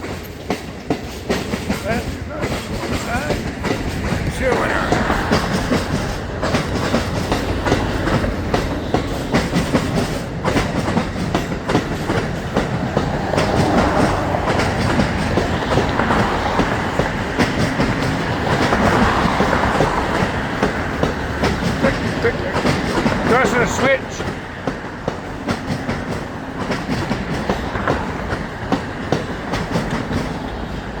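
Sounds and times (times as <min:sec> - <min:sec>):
freight cars rolling past: 0:00.0 - 0:31.0
steel wheels clacking over rail joints: 0:00.0 - 0:31.0.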